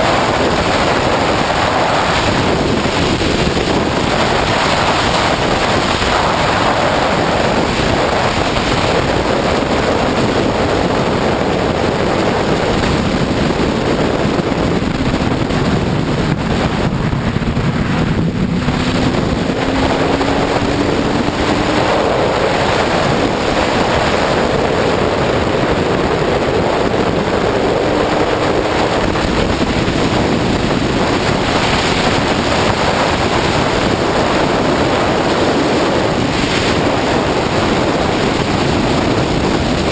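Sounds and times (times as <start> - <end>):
motorcycle engine accelerating: 0.0 - 39.9
wind roar on microphone: 0.0 - 39.9.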